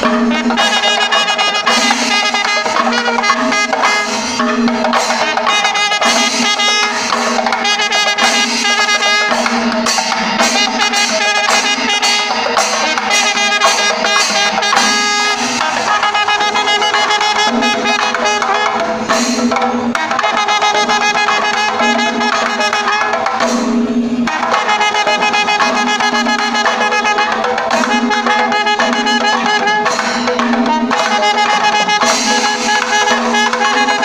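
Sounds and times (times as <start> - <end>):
brass horns sustained notes: 0.0 - 9.6, 10.4 - 19.0, 24.2 - 34.0
cymbals shimmering: 0.0 - 34.0
hand drums beaten rapidly: 0.0 - 34.0.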